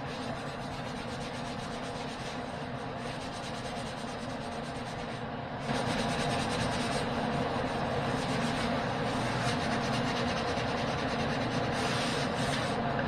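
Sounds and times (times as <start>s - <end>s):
sanding a wall: 0.0s - 12.8s.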